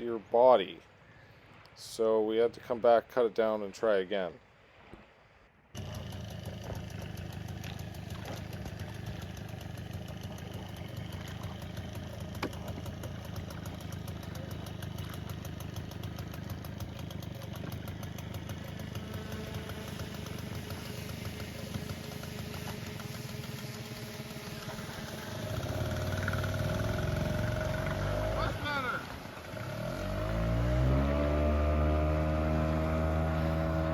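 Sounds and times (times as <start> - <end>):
outboard motor running: 5.8 - 33.9.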